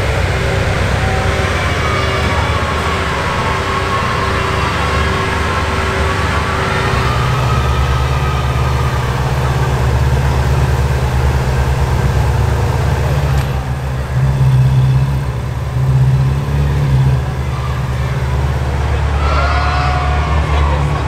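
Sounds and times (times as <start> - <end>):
car engine at low revs: 0.0 - 21.0.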